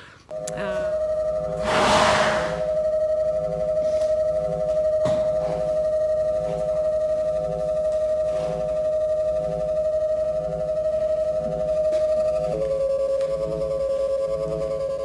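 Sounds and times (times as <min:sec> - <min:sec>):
soft low pulse: 0:00.3 - 0:15.0
steady electronic tone: 0:00.3 - 0:15.0.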